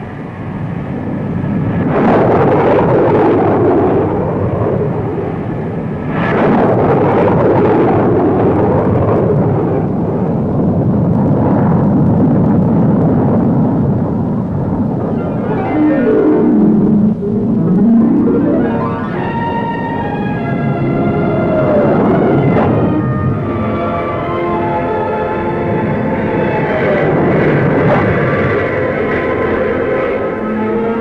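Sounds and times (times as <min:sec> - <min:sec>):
jet engine roaring: 0:00.0 - 0:31.0.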